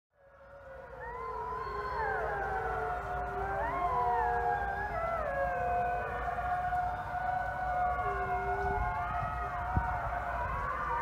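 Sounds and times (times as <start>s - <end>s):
wolves howling: 0.2s - 11.0s.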